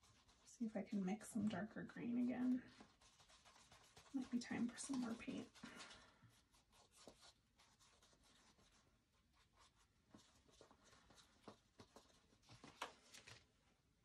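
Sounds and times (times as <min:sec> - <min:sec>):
paintbrush scratching and tapping: 0:00.0 - 0:13.0.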